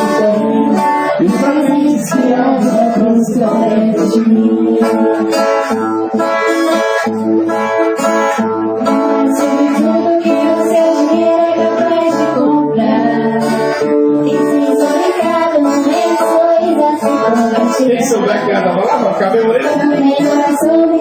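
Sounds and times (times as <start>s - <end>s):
acoustic guitar song: 0.0s - 21.0s.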